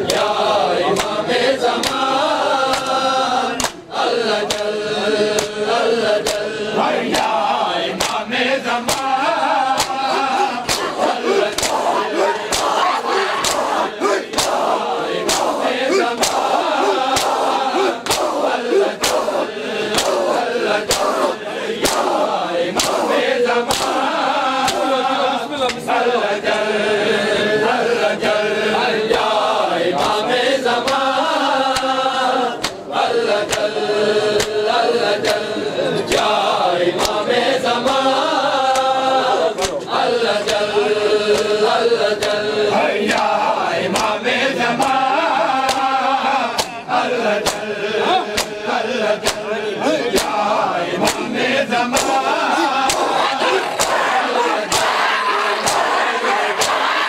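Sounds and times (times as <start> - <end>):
hands slapping chests: 0.0 - 6.5, 7.1 - 7.4, 8.0 - 25.9, 29.1 - 29.4, 30.0 - 30.2, 30.8 - 36.4, 37.0 - 37.2, 37.8 - 42.4, 43.1 - 44.2, 44.8 - 57.0
men chanting together: 0.0 - 57.0.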